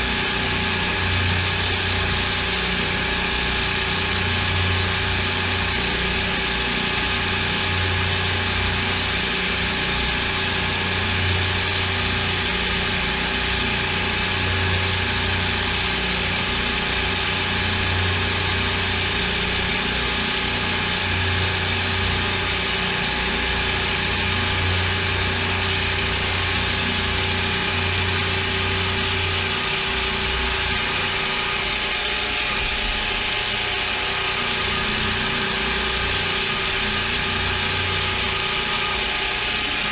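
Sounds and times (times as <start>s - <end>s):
low hum: 0.0s - 39.9s
milling machine whine: 0.0s - 39.9s.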